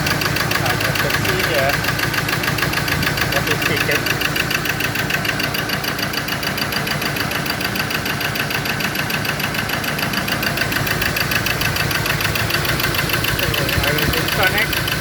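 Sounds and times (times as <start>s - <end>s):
diesel engine idling with ticking: 0.0s - 15.0s.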